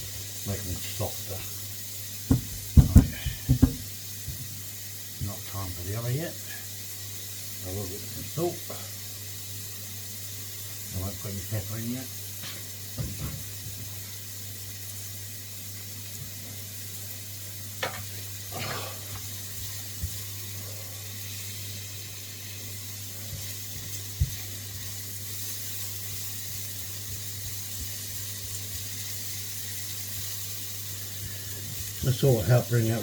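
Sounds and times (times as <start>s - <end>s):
onions sizzling in a wok: 0.0s - 33.0s.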